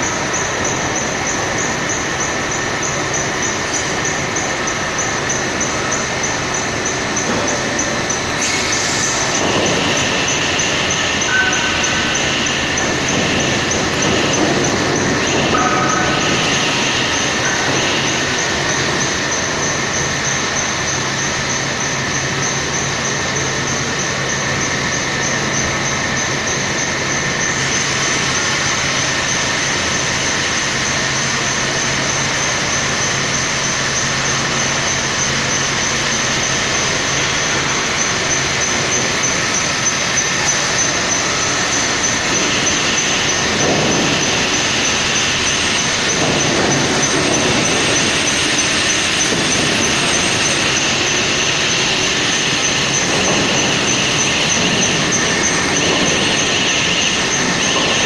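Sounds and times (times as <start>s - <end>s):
high-pitched whine: 0.0s - 58.0s
hydraulic press hum: 0.0s - 58.0s.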